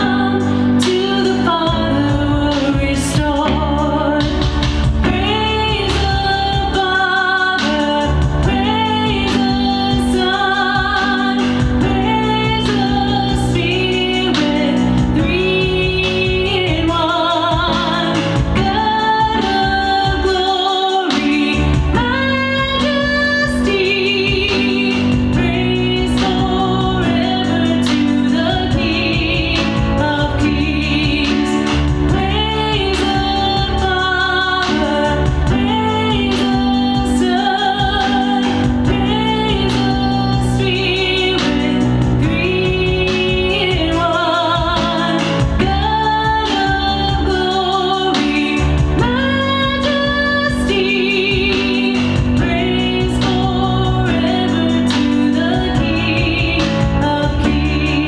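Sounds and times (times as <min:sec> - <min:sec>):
instrumental accompaniment: 0:00.0 - 0:58.0
woman singing: 0:00.0 - 0:58.0.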